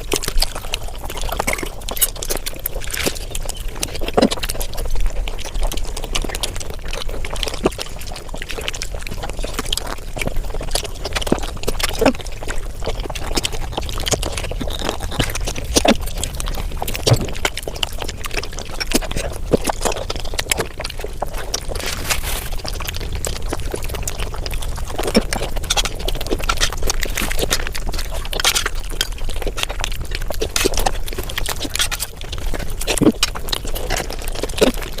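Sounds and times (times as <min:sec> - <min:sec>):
sped-up chewing and slurping: 0:00.0 - 0:35.0.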